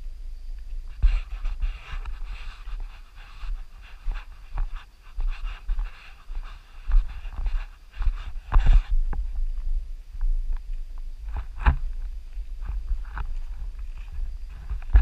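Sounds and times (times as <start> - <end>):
wind thumps on microphone: 0.0 - 15.0.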